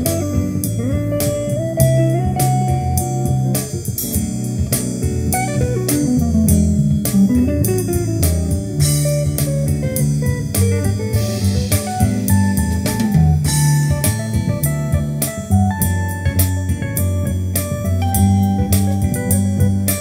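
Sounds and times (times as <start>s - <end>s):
guitar-led music with bass and beat: 0.0s - 20.0s.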